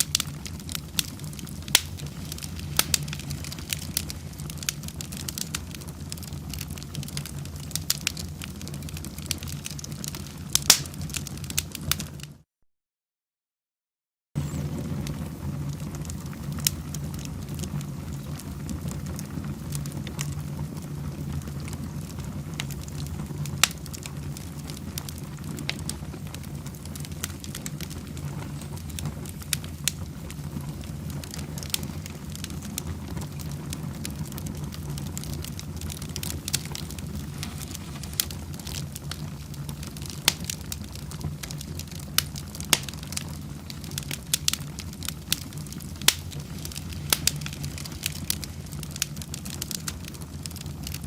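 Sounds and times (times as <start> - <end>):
wood fire crackling: 0.0 - 12.4, 14.4 - 51.0.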